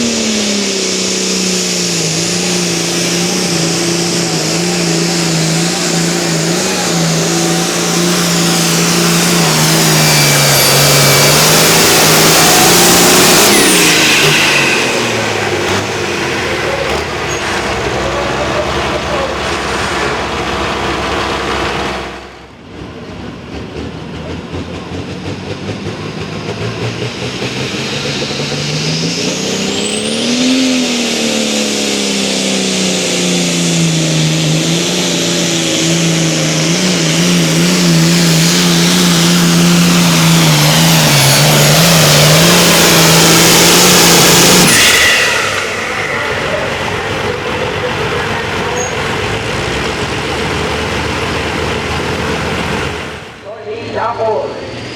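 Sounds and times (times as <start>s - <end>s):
tractor engine revving: 0.0s - 54.9s.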